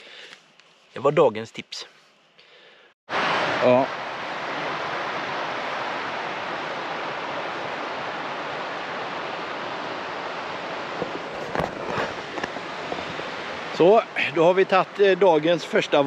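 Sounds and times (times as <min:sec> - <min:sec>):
river rushing over rocks: 0:03.1 - 0:16.0.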